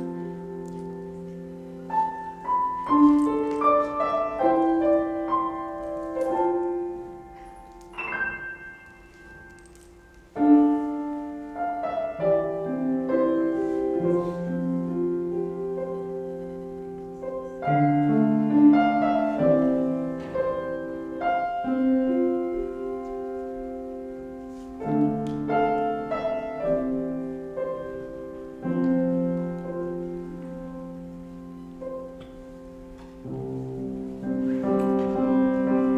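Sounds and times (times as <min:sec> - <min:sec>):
slow piano chords: 0:00.0 - 0:35.9.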